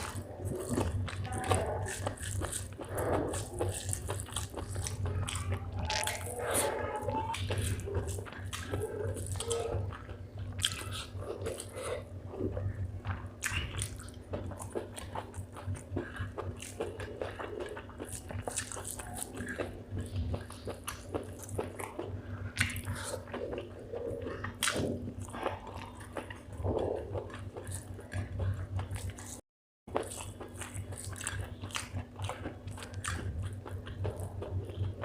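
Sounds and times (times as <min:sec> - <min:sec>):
steady low hum: 0:00.0 - 0:35.0
wet chewing and crunching: 0:00.0 - 0:35.0.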